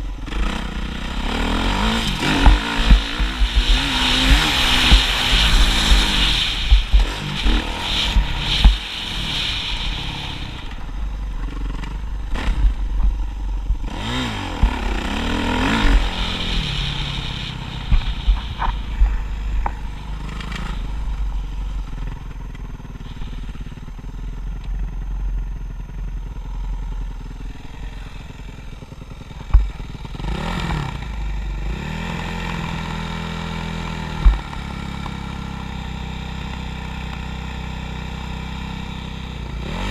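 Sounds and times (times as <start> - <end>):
steady low rumble: 0.0 - 32.0, 32.7 - 36.3
motocross motorcycle engine revving: 0.0 - 39.9.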